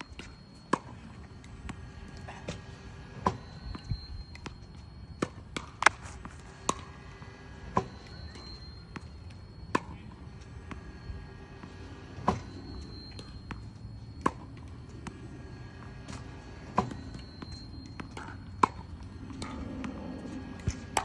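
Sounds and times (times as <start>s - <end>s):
tennis ball machine running: 0.0s - 21.0s.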